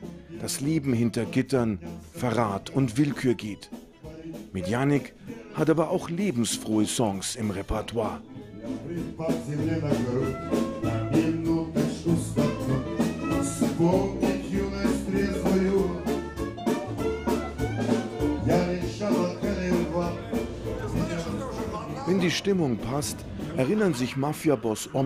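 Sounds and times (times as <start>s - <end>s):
steady drum beat: 0.0s - 7.0s, 8.6s - 25.0s
man singing: 0.0s - 17.3s, 18.2s - 25.0s
acoustic guitars: 0.0s - 25.0s.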